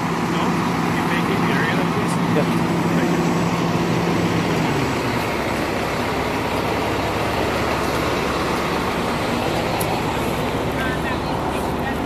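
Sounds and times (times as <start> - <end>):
street noise: 0.0 - 12.0
vehicle engine running: 0.0 - 12.0.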